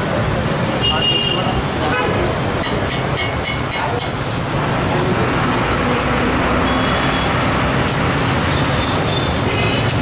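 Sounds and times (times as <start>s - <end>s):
roadside traffic noise: 0.0s - 10.0s.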